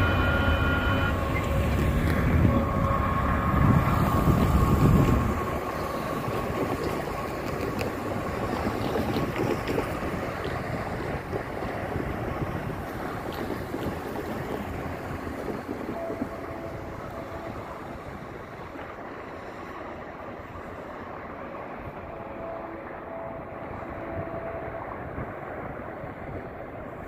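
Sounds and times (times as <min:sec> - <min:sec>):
distant freight train rumble: 0:00.0 - 0:27.0
wind noise on microphone: 0:00.0 - 0:27.0.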